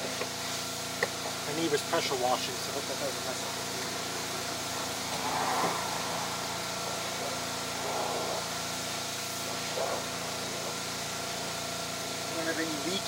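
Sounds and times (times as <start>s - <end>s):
small gasoline engine droning: 0.0s - 13.0s.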